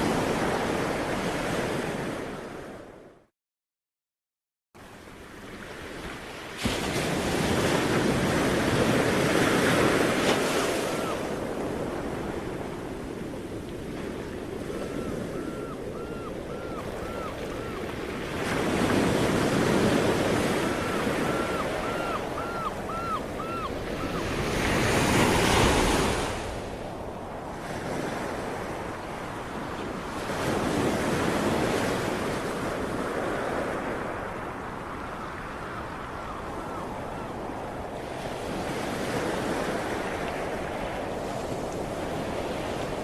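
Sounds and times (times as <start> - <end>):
sea waves breaking on shore: 0.0 - 3.0, 4.8 - 43.0.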